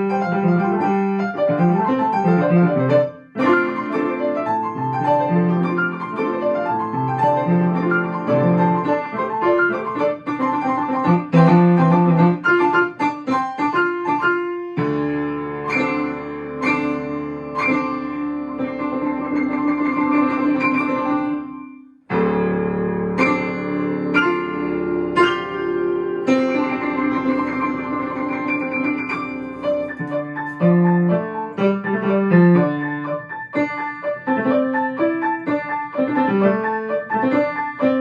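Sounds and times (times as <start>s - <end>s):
piano playing lively melody: 0.0s - 38.0s.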